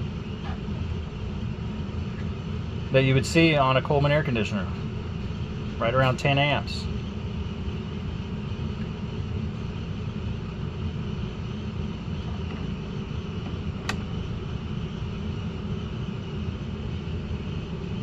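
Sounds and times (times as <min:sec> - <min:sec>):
air conditioners droning: 0:00.0 - 0:18.0.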